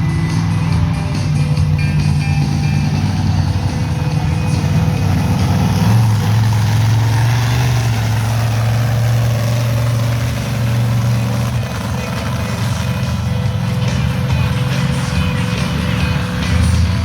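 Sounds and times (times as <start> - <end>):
truck engine running loud: 0.0 - 17.0.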